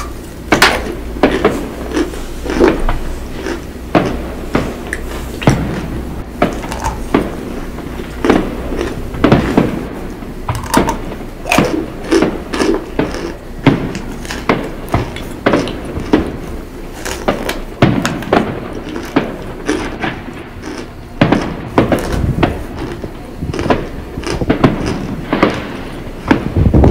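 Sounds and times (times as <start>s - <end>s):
crunching between teeth: 0.0s - 26.9s
distant fireworks popping: 0.0s - 26.9s.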